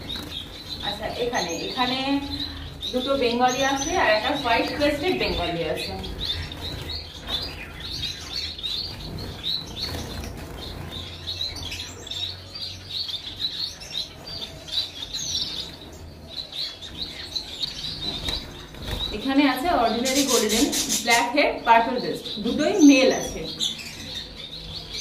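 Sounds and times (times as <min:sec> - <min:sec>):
wing fluttering: 0:00.0 - 0:21.4
finches chirping: 0:00.0 - 0:25.0.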